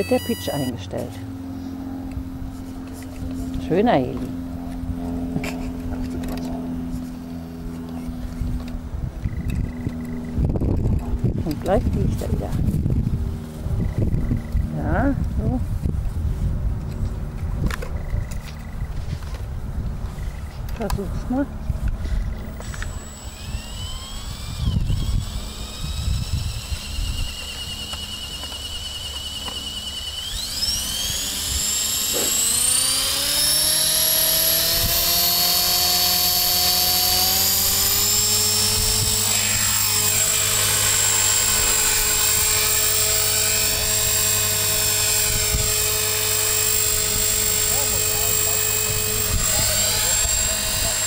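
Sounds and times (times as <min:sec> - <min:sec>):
rc helicopter motor and rotor whine: 0:00.0 - 0:51.0.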